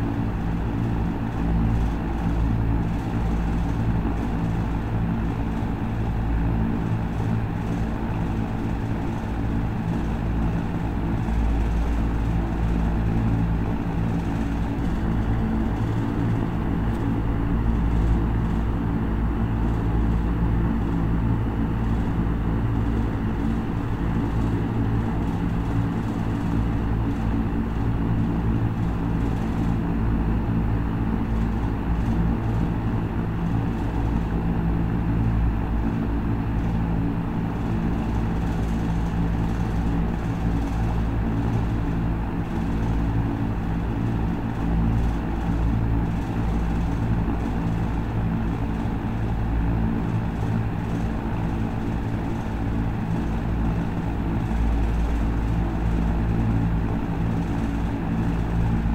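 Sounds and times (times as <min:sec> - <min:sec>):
electric fan motor hum: 0:00.0 - 0:58.9.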